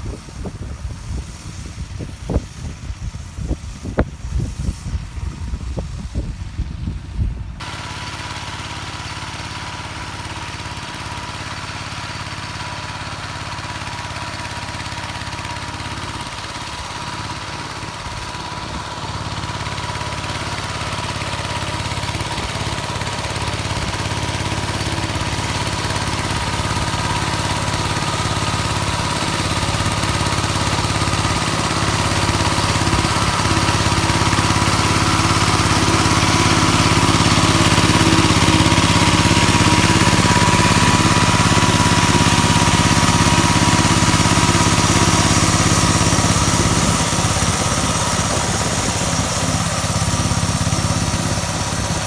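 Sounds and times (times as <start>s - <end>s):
tractor engine running under load: 0.0s - 52.0s.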